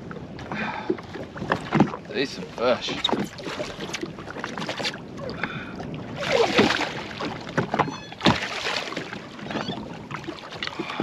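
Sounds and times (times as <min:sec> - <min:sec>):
wind on microphone: 0:00.0 - 0:08.2, 0:09.0 - 0:11.0
water splashing against jet ski: 0:00.0 - 0:11.0.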